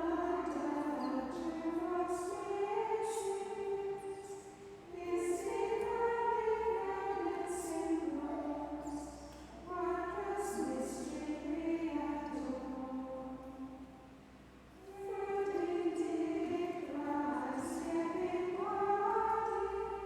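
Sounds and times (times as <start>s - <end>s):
choir of nuns chanting: 0.0s - 14.0s, 14.8s - 20.0s.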